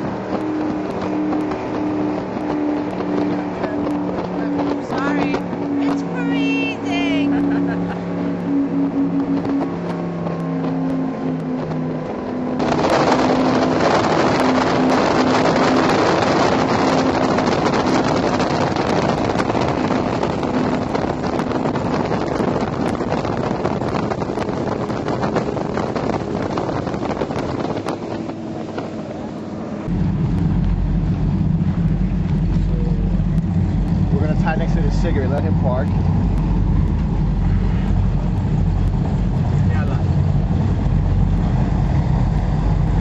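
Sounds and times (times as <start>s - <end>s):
powerboat engines droning: 0.0s - 43.0s
rush of wind and water: 0.0s - 43.0s.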